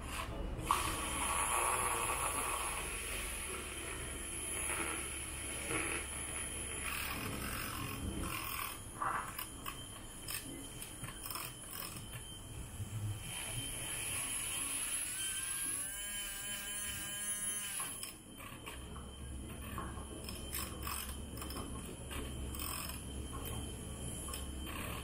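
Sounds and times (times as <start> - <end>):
milk frother whirring: 0.0 - 25.0.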